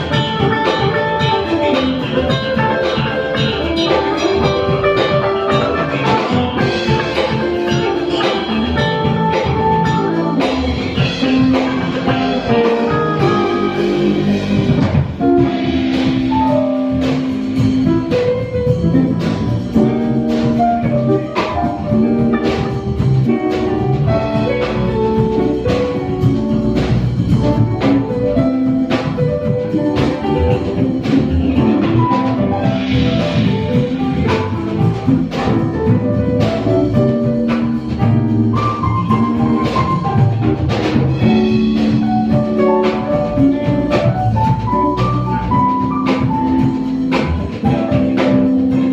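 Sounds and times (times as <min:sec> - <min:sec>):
drum kit beat: 0:00.0 - 0:48.9
guitar melody: 0:00.0 - 0:48.9
jazz band playing: 0:00.0 - 0:48.9.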